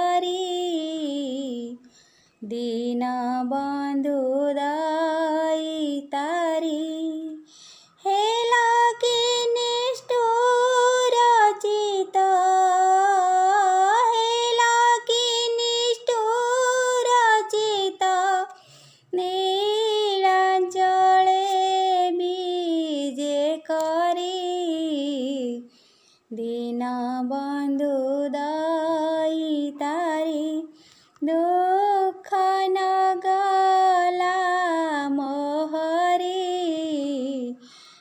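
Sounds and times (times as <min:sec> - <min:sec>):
woman singing devotional song: 0:00.0 - 0:38.0.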